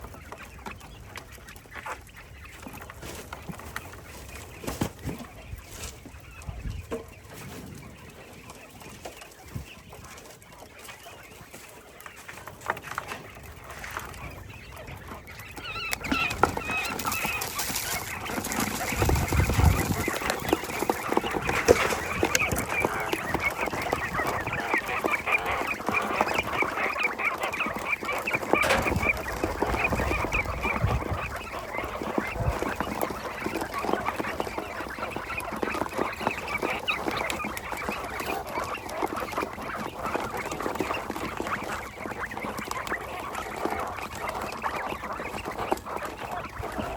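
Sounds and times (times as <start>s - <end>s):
quail chirping: 0.0s - 46.9s.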